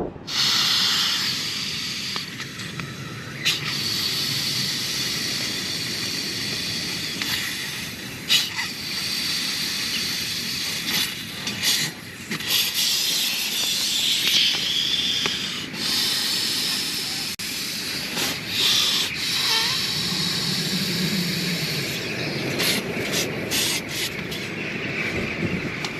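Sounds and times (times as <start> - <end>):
breath blowing into valve: 0.2 - 2.7, 3.4 - 22.0.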